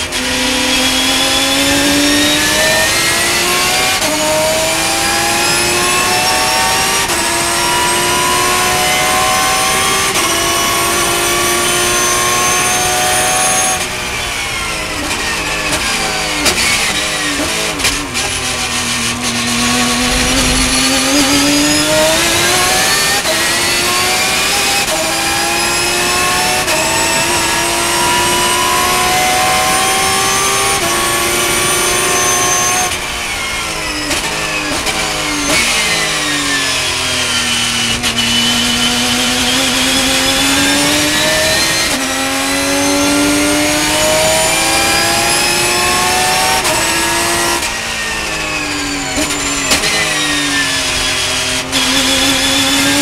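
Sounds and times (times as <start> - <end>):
race car engine at full throttle: 0.0 - 53.0.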